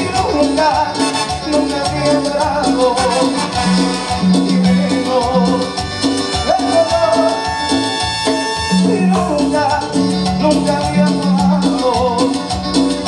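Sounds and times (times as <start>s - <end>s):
lead vocals: 0.0s - 7.7s, 8.8s - 12.9s
percussion: 0.0s - 13.0s
repeating bass line: 0.0s - 13.0s.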